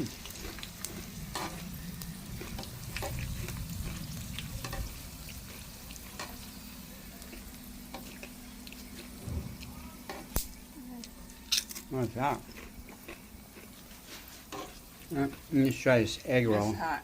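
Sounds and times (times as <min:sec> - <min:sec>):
oil sizzling in frying pan: 0:00.0 - 0:10.8, 0:11.8 - 0:17.0
oil popping and crackling: 0:00.0 - 0:16.8.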